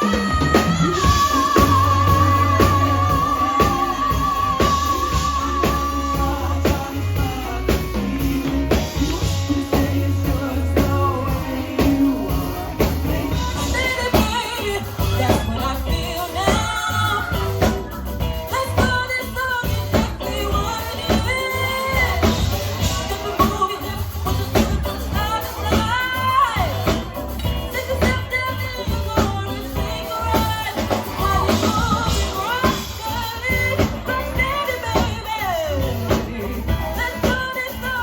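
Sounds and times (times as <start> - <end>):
live rock band playing: 0.0 - 38.0
person singing: 0.0 - 38.0.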